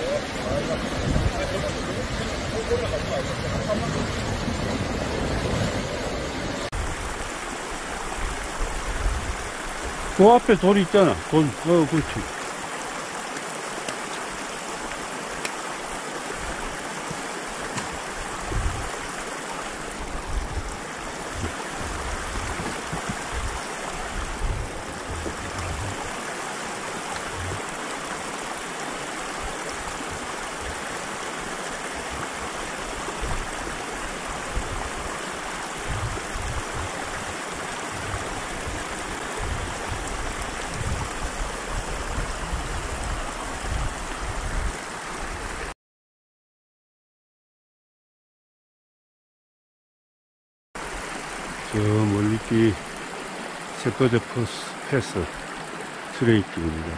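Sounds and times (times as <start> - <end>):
creek running over rocks: 0.0 - 45.7, 50.8 - 56.9.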